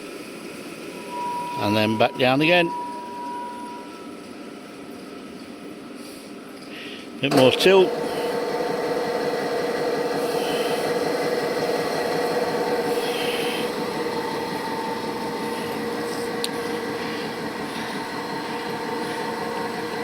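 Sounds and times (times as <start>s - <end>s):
electric drive humming and whining: 0.0s - 20.0s.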